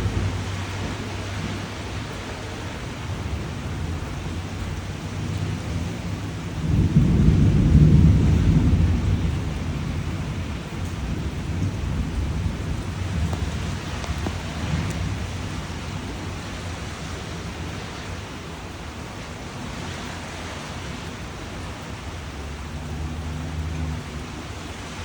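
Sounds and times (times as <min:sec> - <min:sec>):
low rumble of thunder: 0:00.0 - 0:25.0
steady rain falling: 0:00.0 - 0:25.0.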